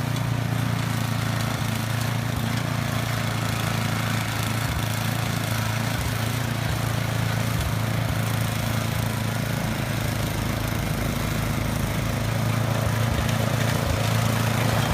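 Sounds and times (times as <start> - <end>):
snowblower engine running: 0.0 - 14.9.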